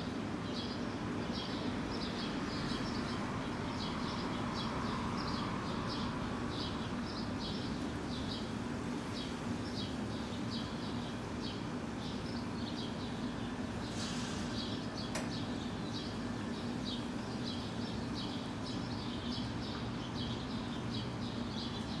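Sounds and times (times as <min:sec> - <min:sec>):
swallows chirping: 0:01.4 - 0:22.0.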